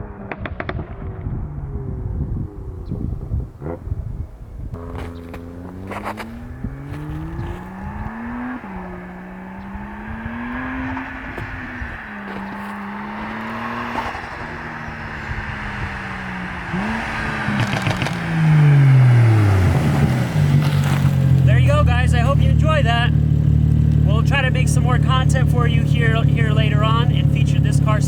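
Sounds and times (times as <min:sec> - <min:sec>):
turbocharged car engine accelerating: 0:00.0 - 0:28.0.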